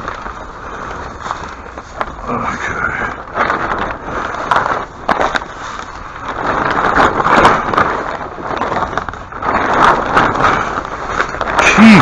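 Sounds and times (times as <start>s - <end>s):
large sheet rustling and crinkling: 0.0s - 12.0s
sharp crackles: 0.0s - 12.0s.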